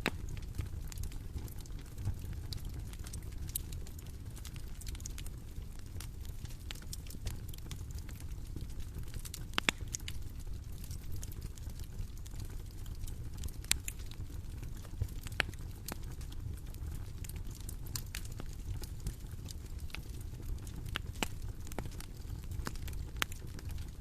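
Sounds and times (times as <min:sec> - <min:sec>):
bonfire crackling and popping: 0:00.0 - 0:24.0
low rumble of flames: 0:00.0 - 0:24.0.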